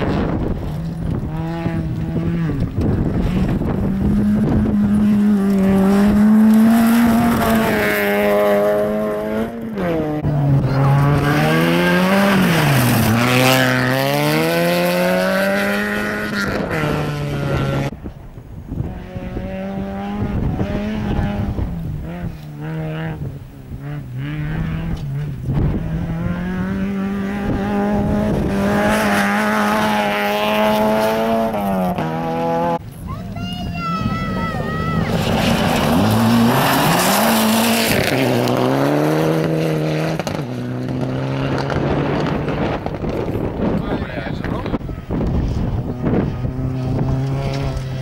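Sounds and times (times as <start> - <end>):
car engines revving hard: 0.0 - 18.0, 18.7 - 33.1, 34.0 - 48.0.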